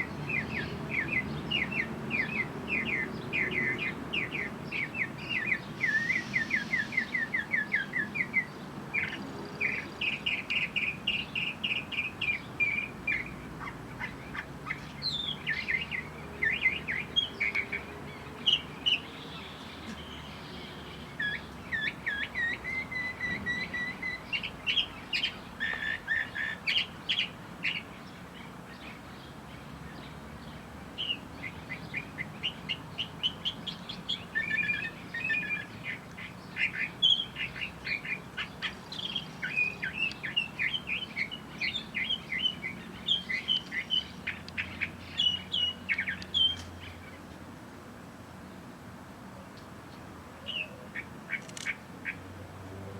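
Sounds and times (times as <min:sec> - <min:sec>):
small birds chirping: 0:00.0 - 0:47.6, 0:49.5 - 0:52.3.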